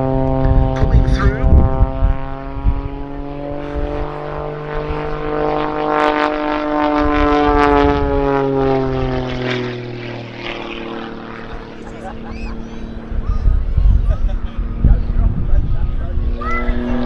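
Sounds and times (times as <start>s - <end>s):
propeller plane droning in flight: 0.0s - 17.0s.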